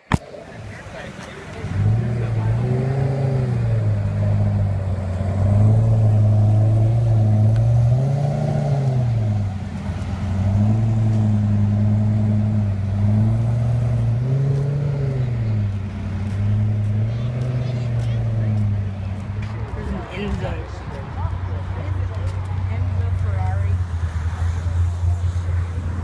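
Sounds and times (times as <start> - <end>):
car engine revving: 0.3 - 26.0.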